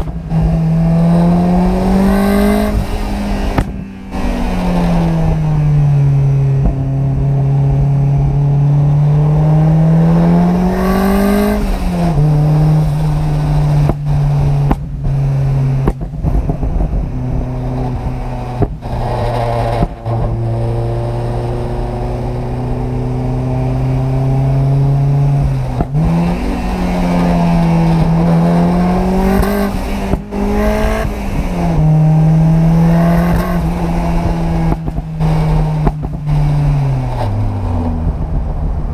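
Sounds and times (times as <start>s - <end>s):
turbocharged car engine revving: 0.0s - 38.9s.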